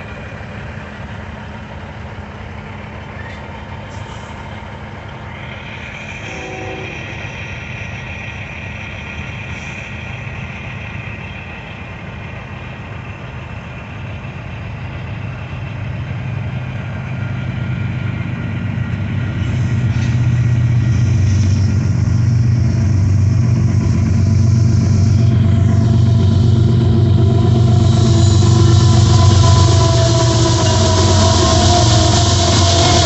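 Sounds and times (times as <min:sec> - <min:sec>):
diesel locomotive engine rumble: 0:00.0 - 0:33.0.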